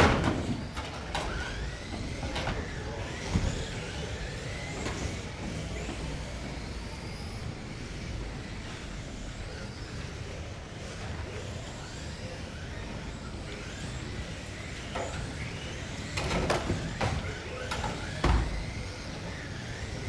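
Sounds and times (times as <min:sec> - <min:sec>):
electric rc cars whirring: 0:00.0 - 0:20.0.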